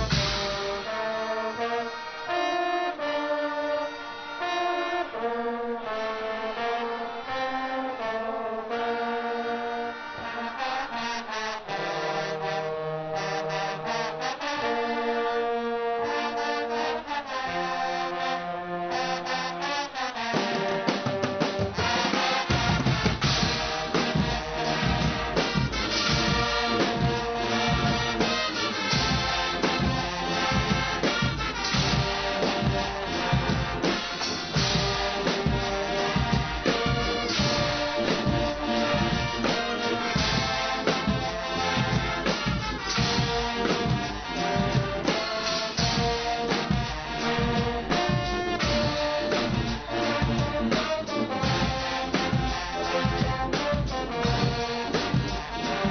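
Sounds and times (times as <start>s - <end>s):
brass band melody: 0.0s - 55.9s
drums and percussion: 0.0s - 55.9s.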